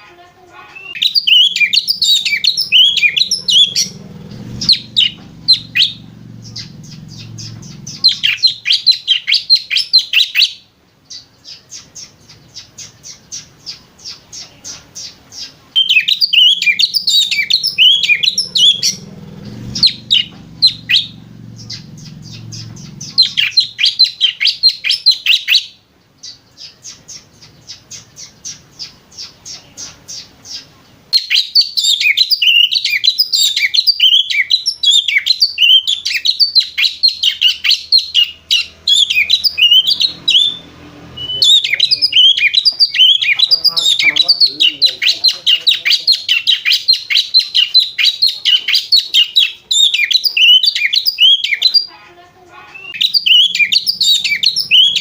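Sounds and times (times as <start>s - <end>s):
bird chattering and twittering: 0.0s - 55.0s.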